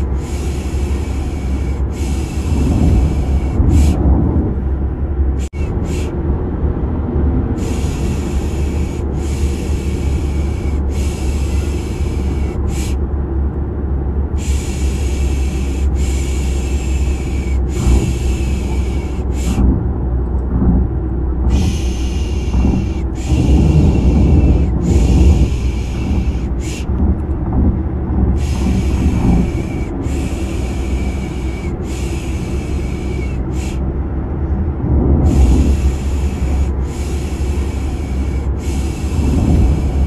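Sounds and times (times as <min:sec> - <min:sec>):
car interior rumble: 0:00.0 - 0:40.0.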